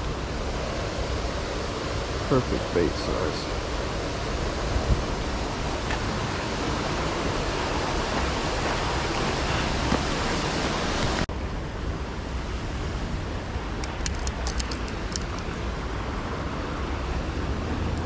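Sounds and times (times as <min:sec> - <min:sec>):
river water rushing: 0:03.0 - 0:18.0.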